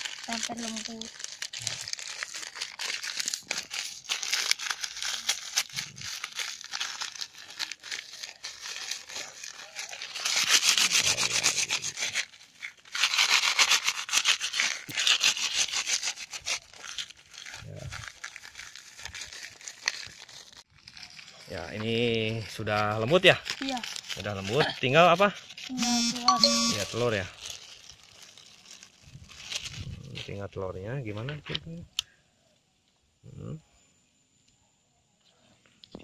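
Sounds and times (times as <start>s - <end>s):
plastic wrapper crinkling: 0.0s - 30.4s.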